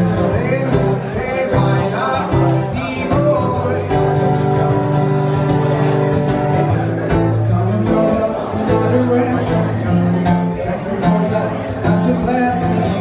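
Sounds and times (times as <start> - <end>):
guitar melody: 0.0 - 13.0.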